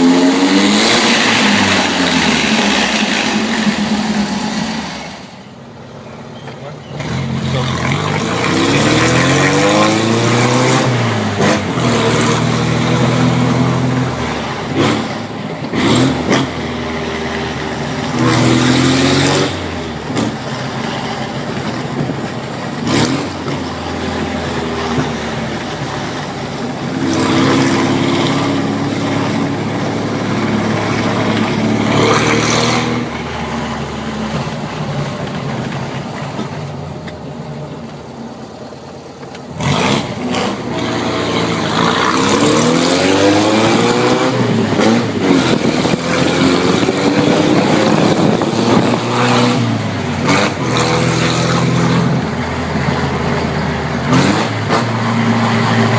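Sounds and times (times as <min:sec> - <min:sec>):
car engine revving: 0:00.0 - 0:05.8, 0:06.6 - 0:37.2, 0:39.3 - 0:55.9.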